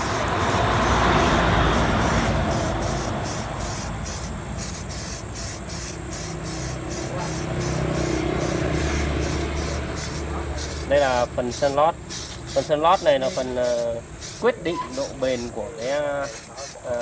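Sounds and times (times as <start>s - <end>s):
spray-paint can hissing: 0.0s - 17.0s.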